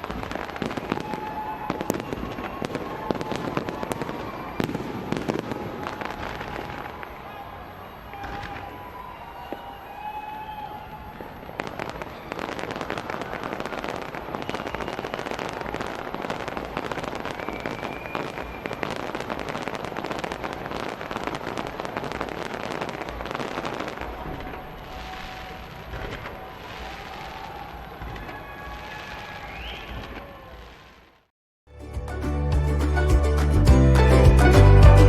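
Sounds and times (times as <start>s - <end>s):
firework bangs: 0.0s - 31.3s
fireworks crackling and popping: 0.0s - 31.3s.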